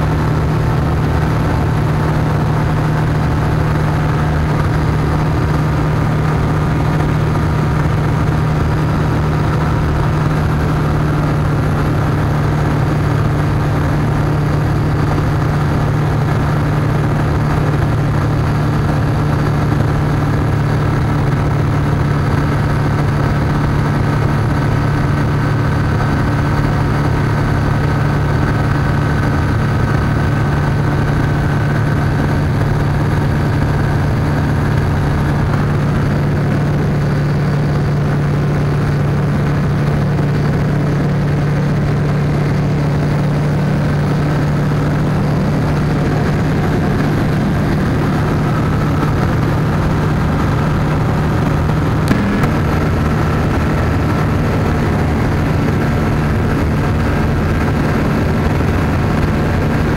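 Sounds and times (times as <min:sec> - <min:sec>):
light airplane engine droning: 0:00.0 - 0:59.9
rushing air noise: 0:00.0 - 0:59.9.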